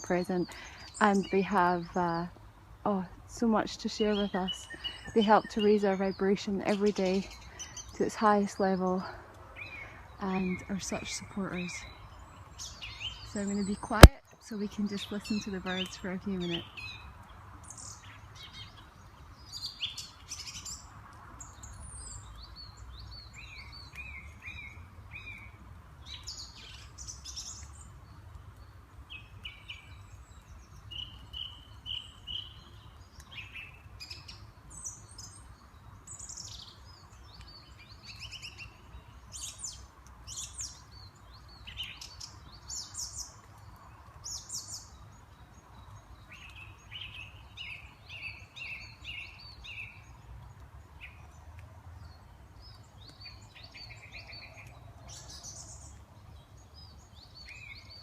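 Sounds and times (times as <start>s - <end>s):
distant traffic rumble: 0.0s - 58.0s
songbirds chirping and singing: 0.0s - 58.0s.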